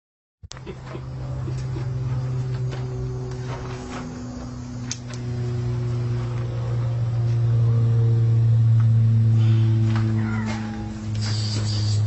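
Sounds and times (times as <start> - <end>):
machine motor humming: 0.5 - 12.0.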